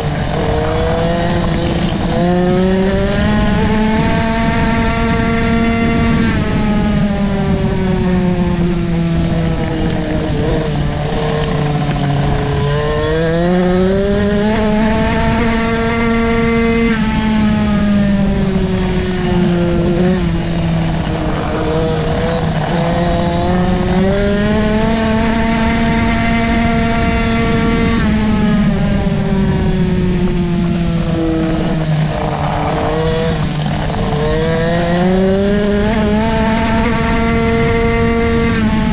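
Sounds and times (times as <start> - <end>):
two-stroke motorcycle engine racing: 0.0 - 38.9.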